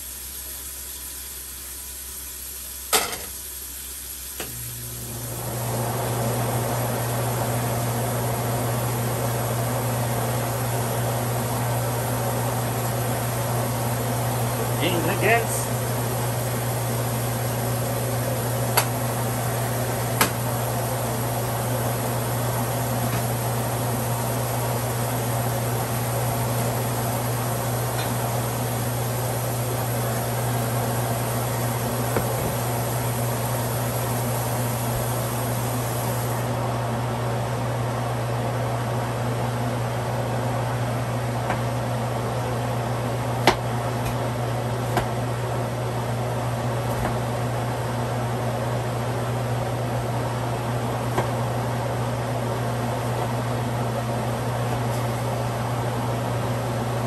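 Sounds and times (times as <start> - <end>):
fan humming: 2.5 - 57.0.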